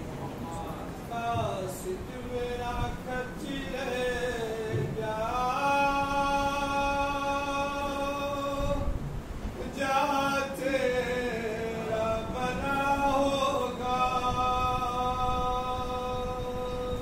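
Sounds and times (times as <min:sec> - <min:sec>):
microphone handling rumble: 0:00.0 - 0:09.8, 0:11.8 - 0:17.0
man chanting a lament: 0:00.5 - 0:09.0, 0:09.6 - 0:17.0.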